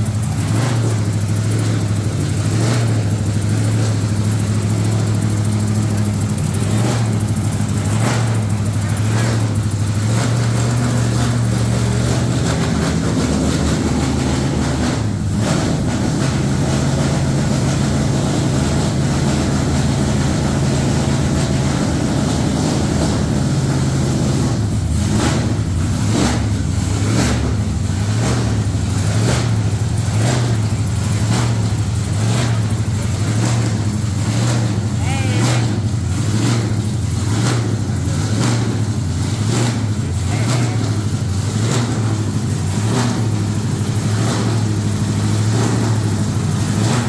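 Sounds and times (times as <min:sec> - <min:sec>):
truck engine running loud: 0:00.0 - 0:47.0.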